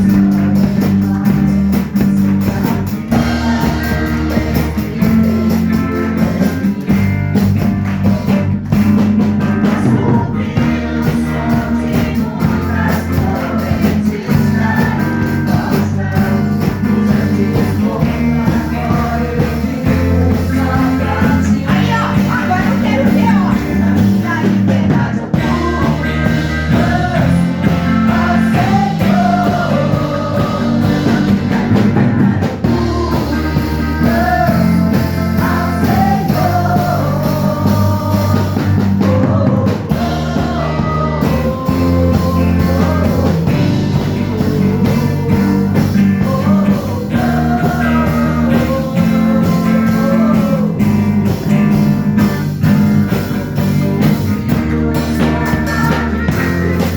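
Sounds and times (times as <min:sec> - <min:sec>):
rock band music: 0:00.0 - 0:56.9.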